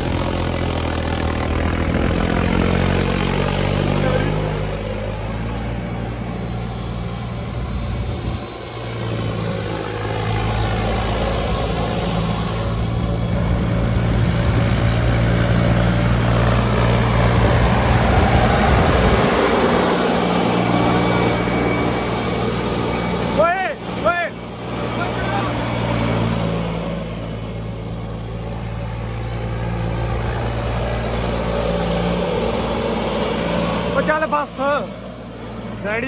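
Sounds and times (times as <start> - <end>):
tractor engine running hard: 0.0 - 36.0.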